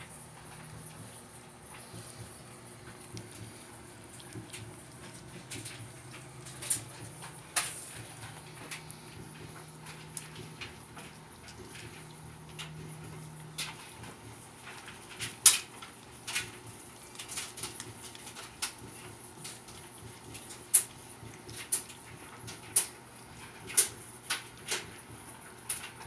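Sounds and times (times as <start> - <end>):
cats crunching dry kibble: 0.0 - 26.0.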